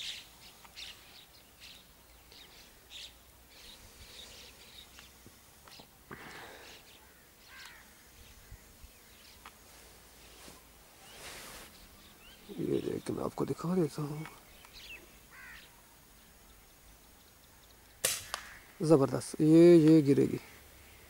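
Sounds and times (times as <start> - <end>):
faint bird chirps: 0.0 - 9.5, 10.2 - 18.9
background hiss: 0.0 - 21.0.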